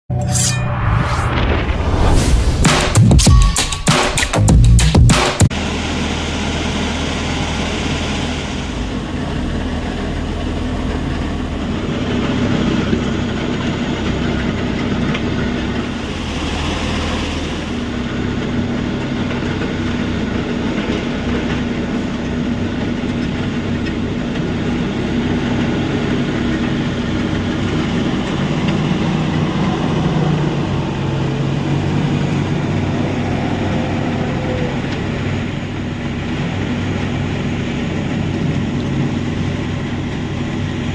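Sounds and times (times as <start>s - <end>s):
heavy machinery rumbling: 4.4s - 40.9s.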